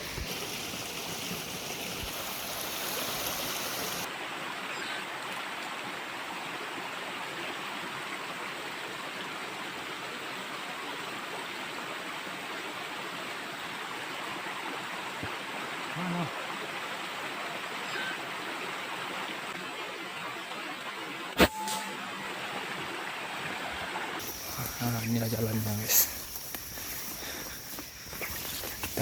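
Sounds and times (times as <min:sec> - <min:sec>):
stream water rushing: 0:00.0 - 0:21.3, 0:22.0 - 0:29.0.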